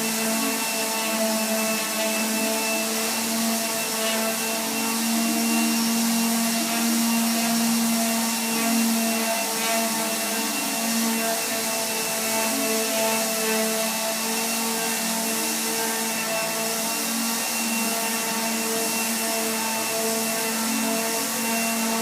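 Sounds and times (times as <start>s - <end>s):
electric sander motor hum: 0.0s - 22.0s
sanding hiss on wood: 0.0s - 22.0s.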